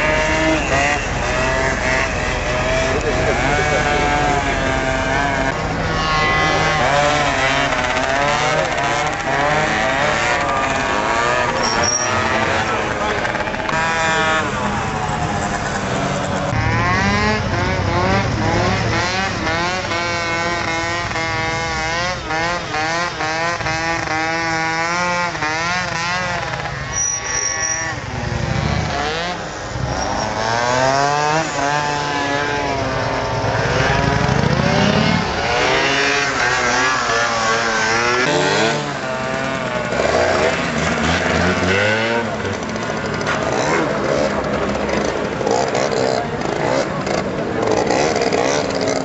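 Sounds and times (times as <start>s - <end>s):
scooter engine revving: 0.0s - 49.0s.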